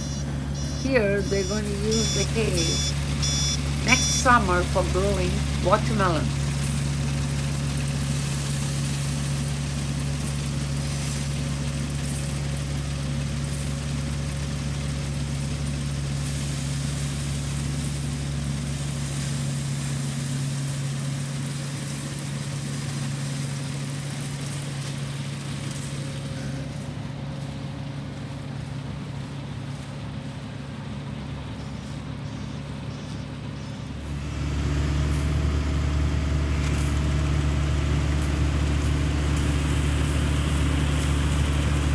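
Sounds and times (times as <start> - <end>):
farm machine engine humming: 0.0 - 41.9.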